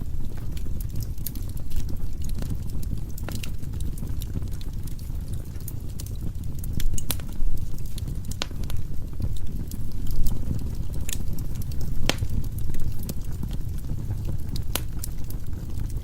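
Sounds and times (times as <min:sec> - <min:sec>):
firewood crackling and popping: 0:00.0 - 0:16.0
low rumble of flame: 0:00.0 - 0:16.0.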